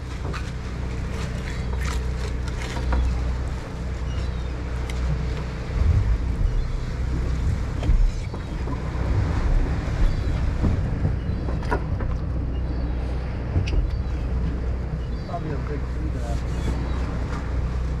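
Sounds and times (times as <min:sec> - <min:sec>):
boat engine droning: 0:00.0 - 0:18.0
wind buffeting microphone: 0:03.0 - 0:18.0.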